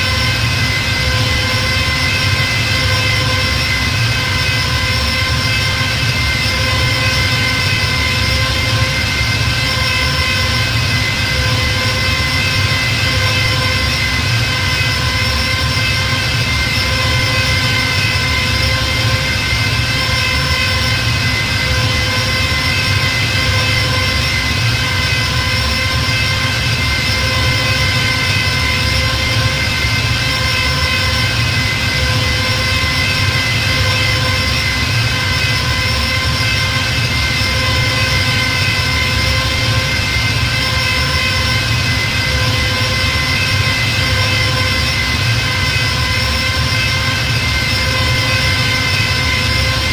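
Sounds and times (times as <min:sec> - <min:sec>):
whining hum of layered tones: 0:00.0 - 0:49.9.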